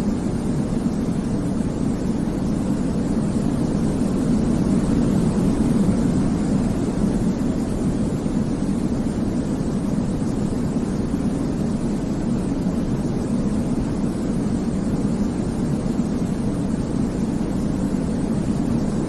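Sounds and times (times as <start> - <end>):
deep rumbling white noise: 0.0 - 19.0.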